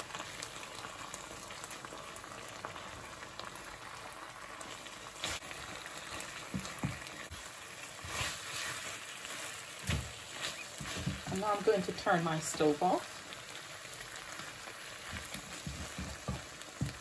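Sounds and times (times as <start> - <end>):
sauce bubbling in a pot: 0.0 - 17.0.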